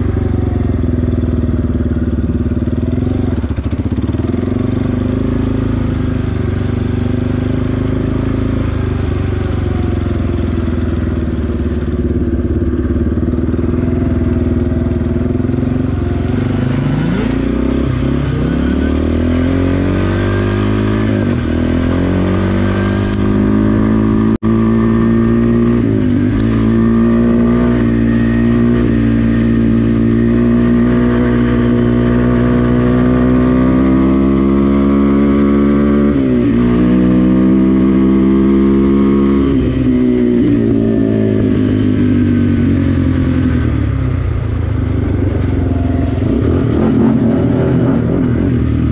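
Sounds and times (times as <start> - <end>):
quad engine running: 0.0 - 48.9.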